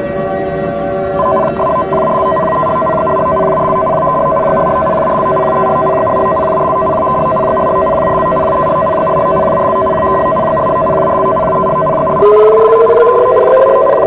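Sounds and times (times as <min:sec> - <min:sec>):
electronic alert tone: 0:01.2 - 0:14.0
rising electronic tone: 0:01.2 - 0:14.0.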